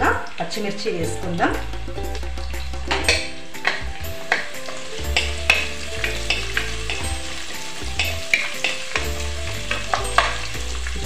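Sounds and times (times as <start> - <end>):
onions sizzling in hot oil: 0.0 - 11.0
wooden spatula scraping pot: 1.2 - 11.0.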